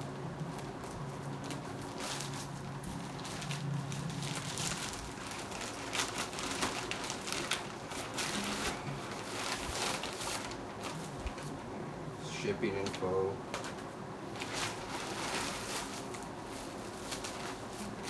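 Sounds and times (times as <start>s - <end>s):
paper crackling: 0.0s - 11.6s, 12.4s - 18.0s
plastic bag crinkling: 0.0s - 11.6s, 12.6s - 18.0s.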